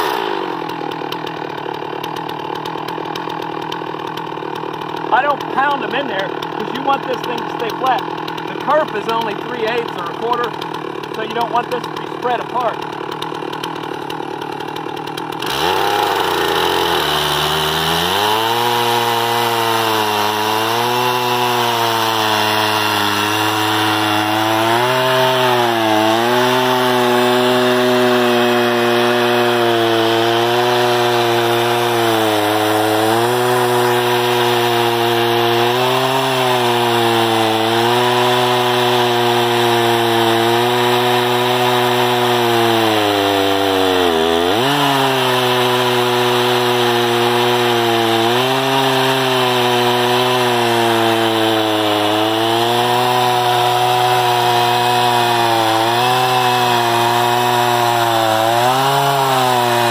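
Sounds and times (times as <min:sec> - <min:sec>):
chainsaw cutting through log: 0:00.0 - 0:59.9
chainsaw idling: 0:00.0 - 0:59.9.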